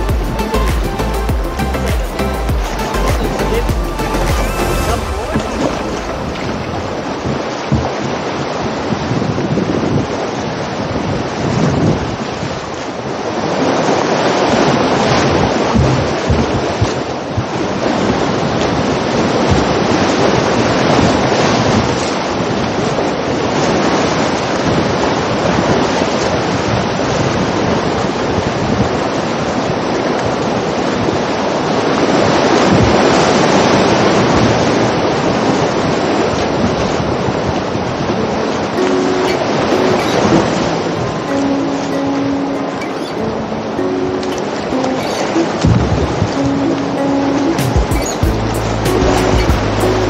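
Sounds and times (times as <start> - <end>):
river rapids rushing: 0.0 - 50.0
wind buffeting microphone: 0.0 - 50.0.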